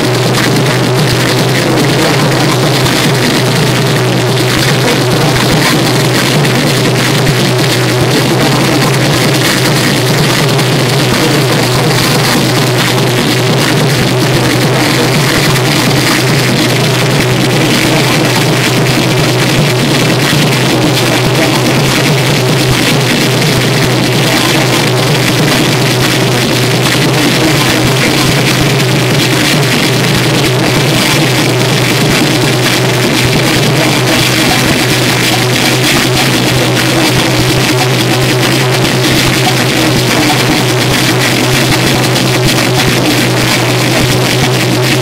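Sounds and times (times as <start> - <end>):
loud electronic noise music: 0.0 - 45.0
steady low drone: 0.0 - 45.0.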